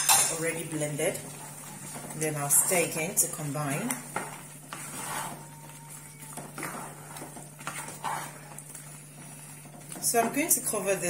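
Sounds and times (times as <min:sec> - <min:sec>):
spoon stirring thick soup: 0:00.1 - 0:11.0.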